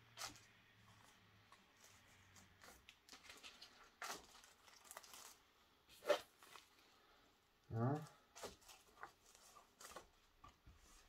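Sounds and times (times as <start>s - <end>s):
packing sheet rustling and crinkling: 0.1s - 7.1s, 8.3s - 11.0s.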